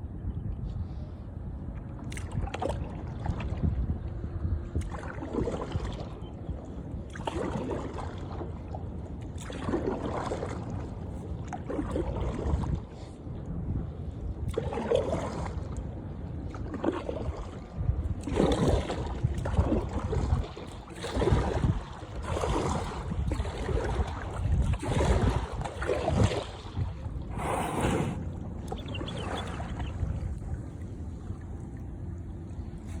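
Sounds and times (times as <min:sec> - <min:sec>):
wind on microphone: 0:00.0 - 0:08.5, 0:11.4 - 0:15.8, 0:16.5 - 0:33.0
sea water splashing: 0:04.8 - 0:13.2, 0:14.4 - 0:33.0.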